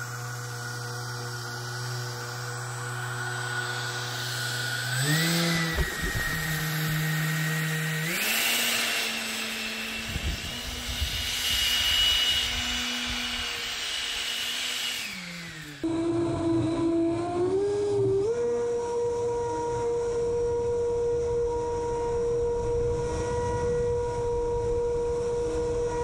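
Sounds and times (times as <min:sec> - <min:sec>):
electric ducted fan whining: 0:00.0 - 0:26.0
lower wavering whine: 0:00.0 - 0:26.0.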